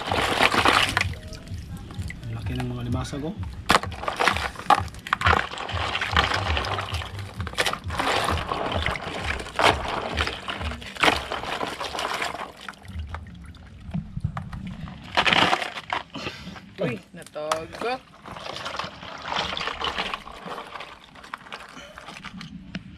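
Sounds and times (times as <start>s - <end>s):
water sloshing in plastic basin: 0.0s - 22.9s.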